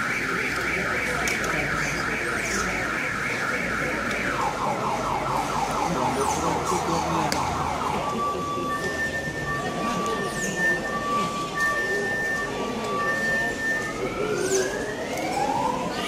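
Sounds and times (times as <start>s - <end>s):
steady beeping tones: 0.0s - 15.8s
electronic siren warbling: 0.0s - 16.0s.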